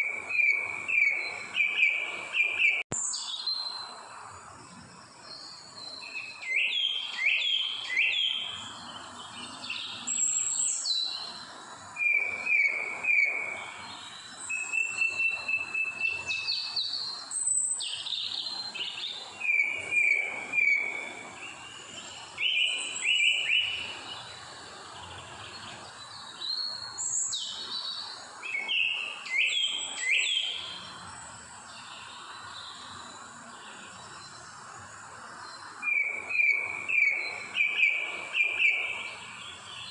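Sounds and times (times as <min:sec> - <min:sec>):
background hiss: 0:00.0 - 0:39.9
birds singing whistled notes: 0:00.0 - 0:39.9.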